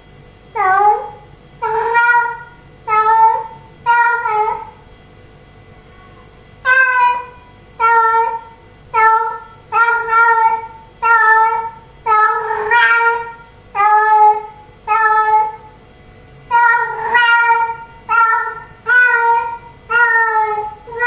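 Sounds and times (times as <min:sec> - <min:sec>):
cat meowing: 0:00.6 - 0:04.8, 0:05.9 - 0:15.7, 0:16.5 - 0:21.0.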